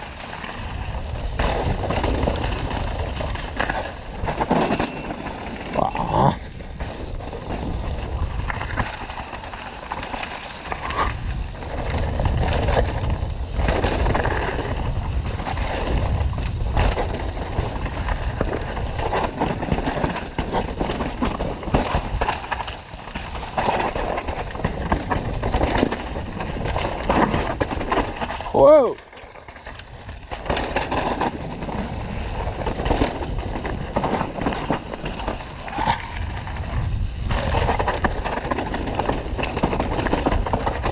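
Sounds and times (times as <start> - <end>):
bike knocking and rattling: 0.0 - 40.9
bike tyres rolling over dirt and rocks: 0.0 - 40.9
wind rumble on microphone: 0.0 - 40.9.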